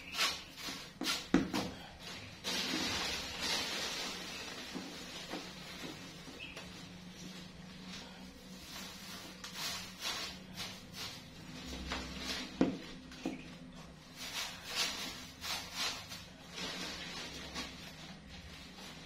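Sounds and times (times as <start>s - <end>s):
straw rustling: 0.0s - 19.0s.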